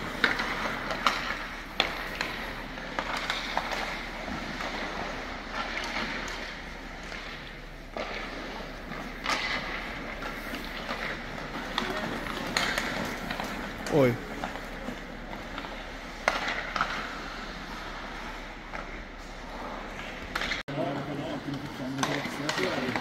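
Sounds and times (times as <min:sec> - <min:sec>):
hockey sticks and puck clacking: 0:00.0 - 0:23.0
skates scraping on ice: 0:00.0 - 0:23.0.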